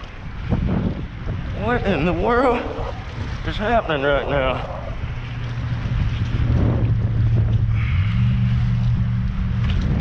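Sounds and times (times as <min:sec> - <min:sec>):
engine hum: 0:00.0 - 0:10.0
wind rumbling on microphone: 0:00.0 - 0:10.0.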